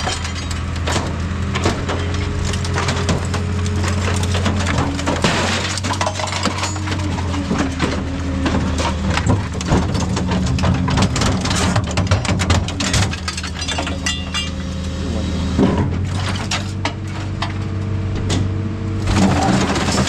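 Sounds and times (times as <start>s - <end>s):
heavy machinery engine hum: 0.0s - 20.0s
scrap metal clanking and crunching: 0.0s - 20.0s.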